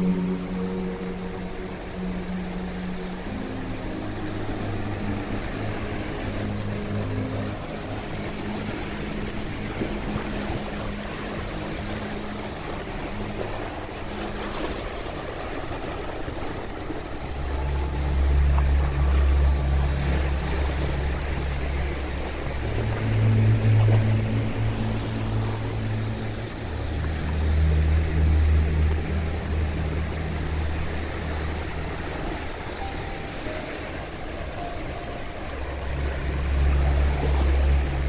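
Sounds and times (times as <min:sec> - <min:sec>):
low drone: 0:00.0 - 0:38.0
small waves breaking on shore: 0:00.0 - 0:38.0.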